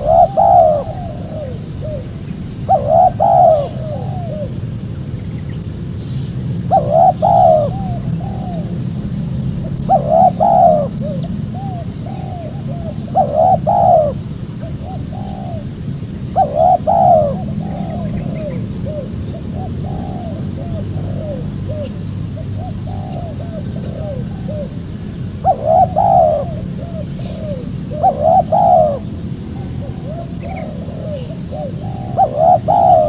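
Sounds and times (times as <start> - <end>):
dove cooing: 0.0 - 33.0
steady low hum: 0.0 - 33.0.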